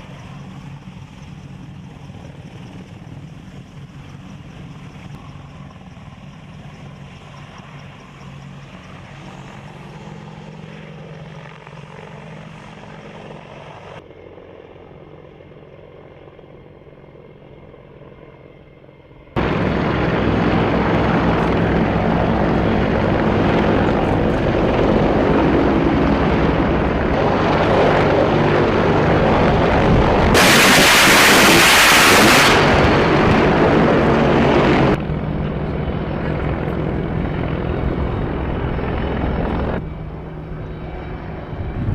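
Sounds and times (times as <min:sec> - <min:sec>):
helicopter rotor and engines: 0:00.0 - 0:41.9.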